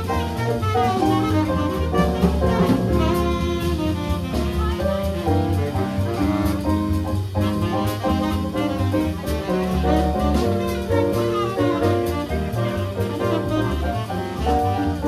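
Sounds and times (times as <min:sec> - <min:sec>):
bass line: 0:00.0 - 0:15.0.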